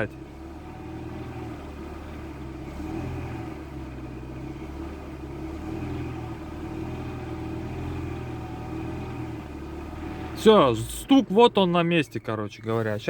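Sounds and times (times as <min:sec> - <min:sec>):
petrol engine running rough: 0:00.0 - 0:13.0.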